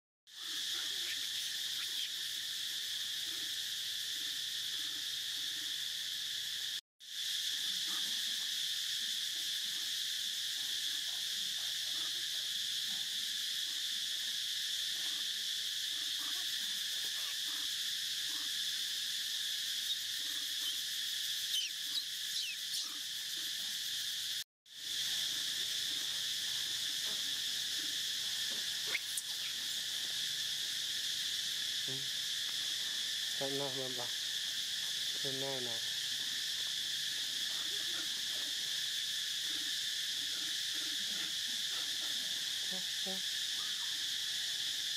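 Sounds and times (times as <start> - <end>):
insects buzzing: 0.3 - 44.9.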